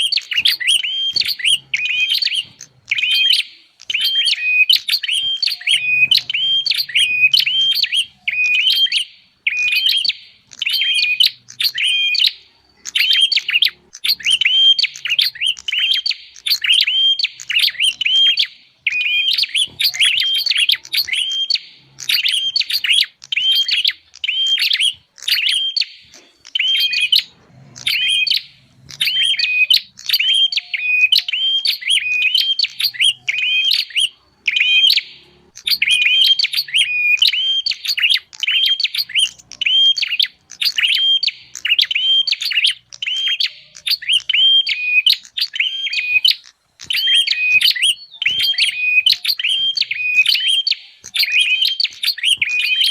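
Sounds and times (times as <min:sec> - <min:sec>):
bird chirping: 0:00.0 - 0:52.9.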